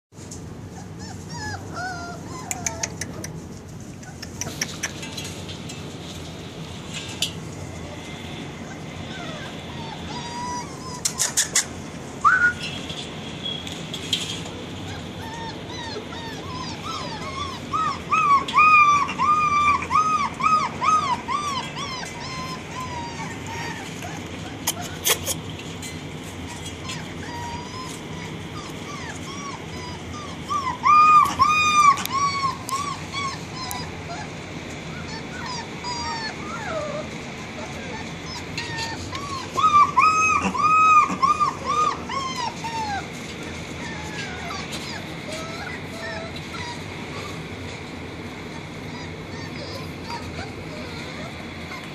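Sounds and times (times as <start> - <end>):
puppies whining and whimpering: 0.4 - 51.9.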